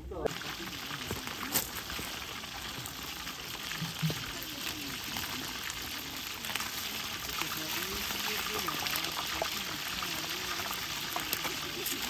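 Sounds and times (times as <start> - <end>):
fish sizzling in hot oil: 0.3 - 12.0.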